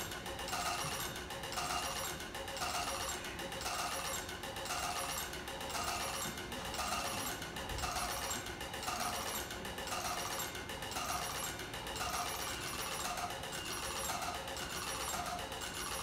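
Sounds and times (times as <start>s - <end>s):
mechanisms clicking and whirring: 0.0s - 16.0s.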